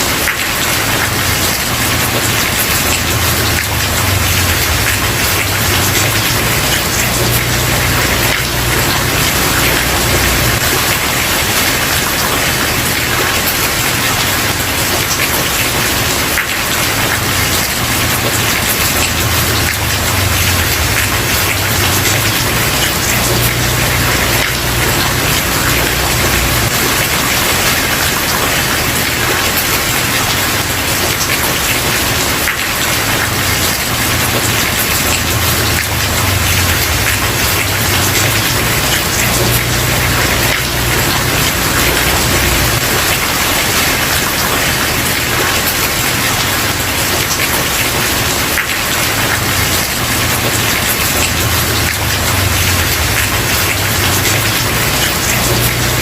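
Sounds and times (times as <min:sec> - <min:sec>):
rain on a wooden porch: 0:00.0 - 0:56.0.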